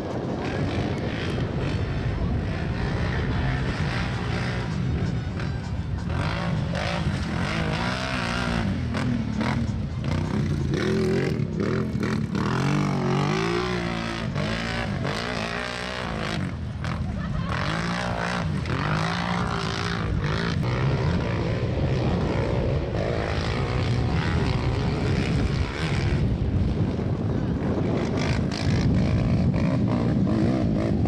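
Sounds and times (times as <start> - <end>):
atv engines revving: 0.0 - 31.0.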